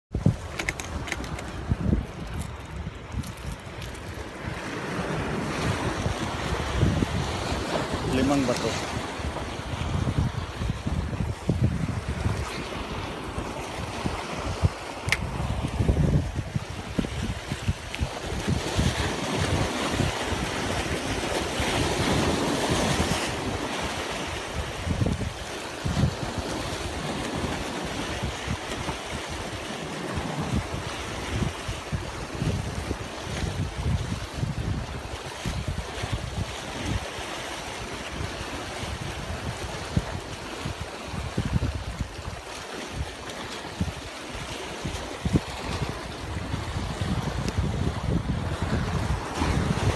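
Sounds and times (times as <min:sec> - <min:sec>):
waves breaking on rocks: 0:00.1 - 0:49.9
wind buffeting microphone: 0:00.1 - 0:49.9.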